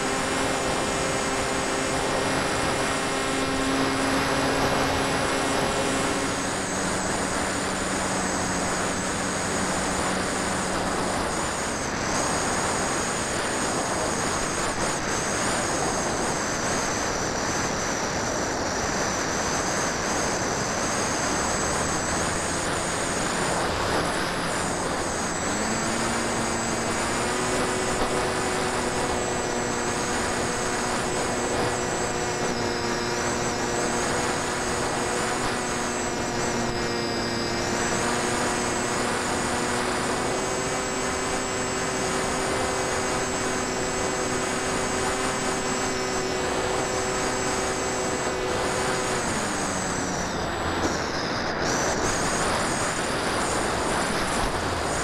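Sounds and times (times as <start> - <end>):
electric motor whine: 0.0 - 55.0
low propeller hum: 0.0 - 55.0.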